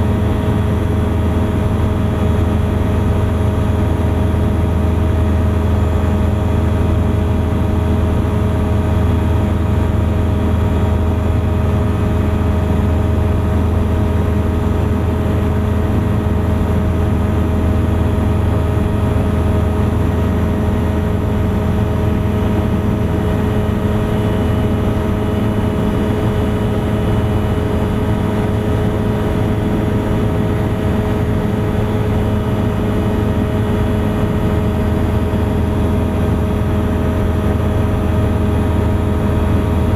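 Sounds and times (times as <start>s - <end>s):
ultralight aircraft engine drone: 0.0s - 39.9s.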